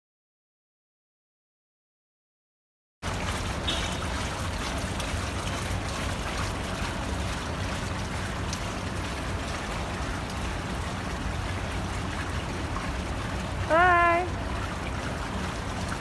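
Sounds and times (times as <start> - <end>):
fountain water splashing and bubbling: 3.0 - 16.0.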